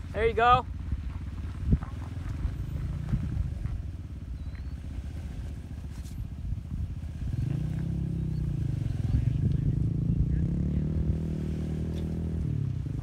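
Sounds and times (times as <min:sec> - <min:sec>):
car engine running low: 0:00.0 - 0:13.0.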